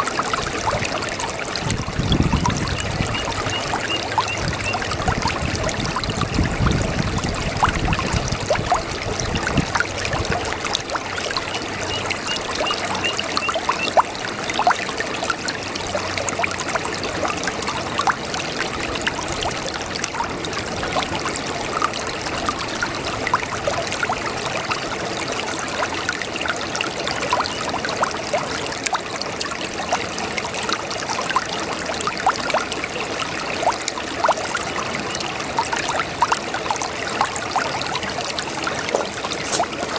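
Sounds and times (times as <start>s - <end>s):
water running over stones: 0.0s - 39.9s.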